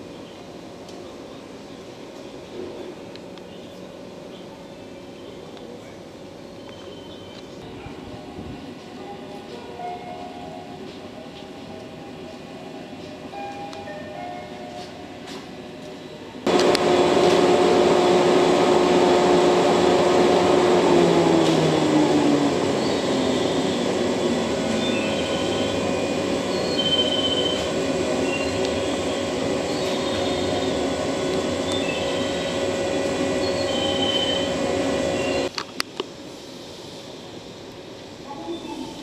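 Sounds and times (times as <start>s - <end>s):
electric train hum and whine: 0.0s - 39.0s.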